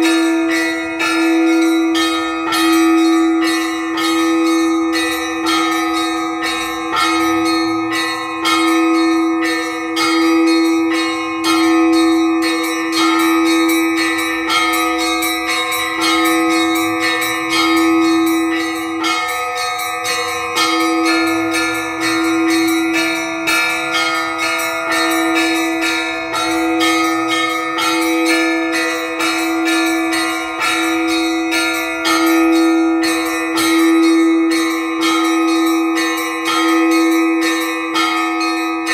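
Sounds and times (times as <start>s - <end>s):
low bell ringing: 0.0s - 38.9s
small high bells striking: 0.0s - 38.9s.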